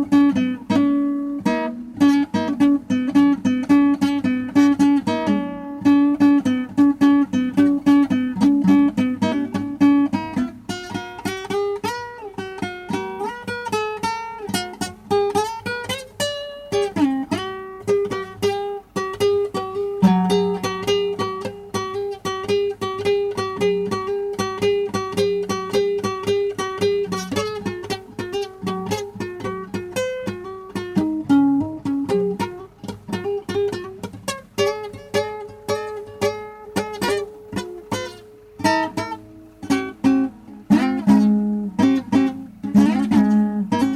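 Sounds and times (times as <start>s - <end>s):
solo blues on plucked strings: 0.0s - 43.9s.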